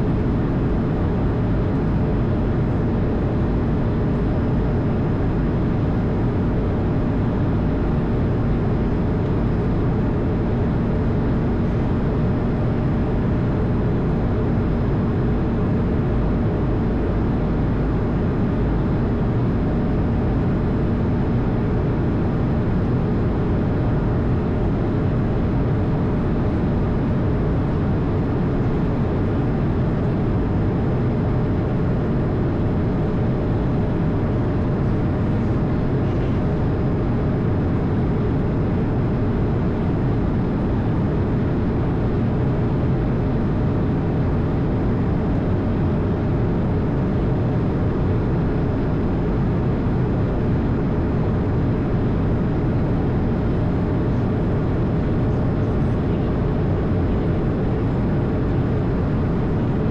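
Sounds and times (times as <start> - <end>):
airplane cabin roar: 0.0 - 59.9
faint steady hum: 0.0 - 59.9.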